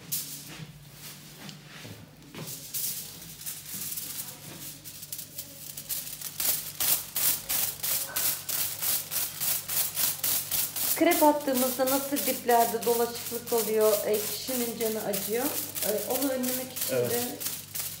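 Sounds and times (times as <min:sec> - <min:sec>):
scratchy strokes through hair: 0:02.5 - 0:18.0.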